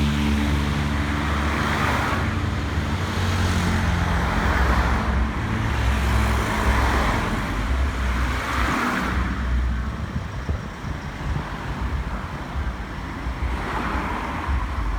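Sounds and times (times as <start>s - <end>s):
traffic rushing noise: 0.0s - 14.9s.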